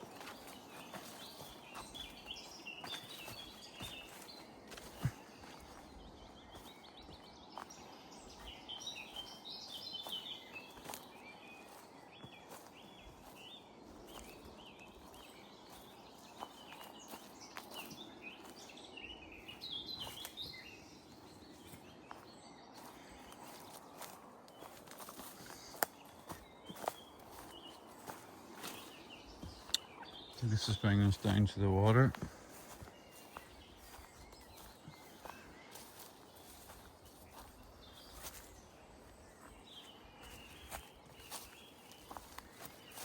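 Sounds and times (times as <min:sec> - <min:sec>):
footsteps in woodland: 0:00.0 - 0:43.0
small birds chirping: 0:00.0 - 0:43.0.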